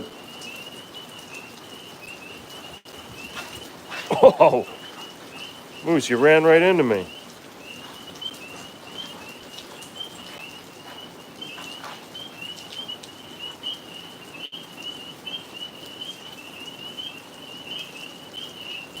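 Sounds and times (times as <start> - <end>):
tree frogs chorusing: 0.0 - 19.0.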